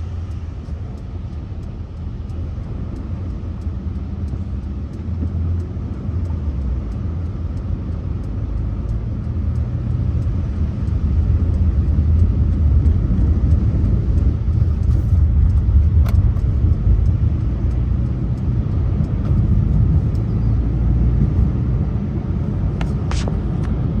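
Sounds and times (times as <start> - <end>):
car engine and road noise: 0.0 - 24.0
faint clicks: 0.2 - 21.5.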